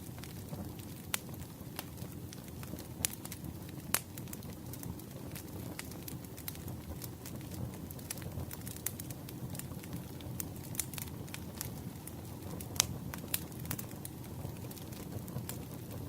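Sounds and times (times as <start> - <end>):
burning wood crackling and popping: 0.0 - 16.0
flames rumbling: 0.0 - 16.0.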